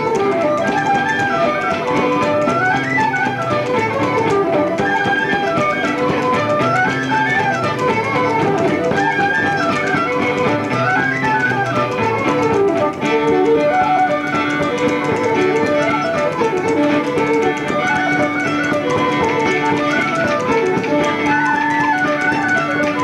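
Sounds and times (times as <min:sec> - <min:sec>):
fiddle playing fast dance tune: 0:00.0 - 0:23.0.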